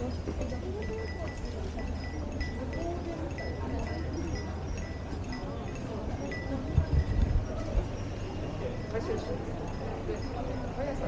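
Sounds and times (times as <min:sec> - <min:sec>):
faint voices of people: 0:00.0 - 0:11.0
small bell jingling: 0:00.0 - 0:11.0.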